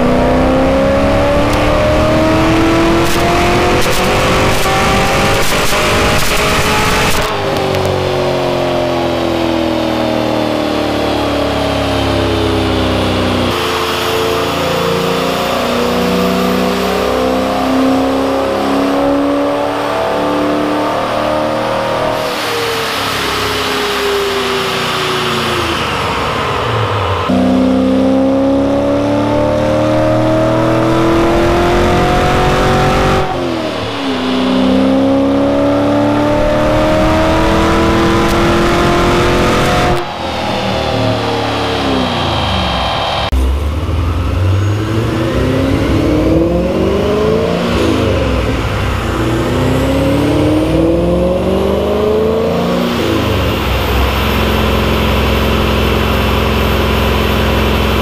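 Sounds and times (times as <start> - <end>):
car engine revving under load: 0.0 - 58.0.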